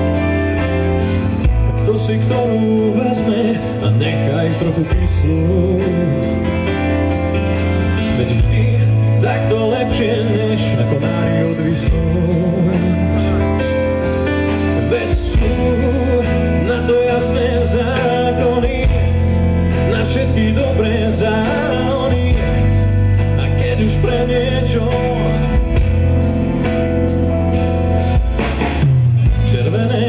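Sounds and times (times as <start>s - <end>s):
person singing: 0.0s - 6.9s, 7.8s - 26.2s, 29.2s - 30.0s
accordion: 0.0s - 30.0s
live band playing: 0.0s - 30.0s.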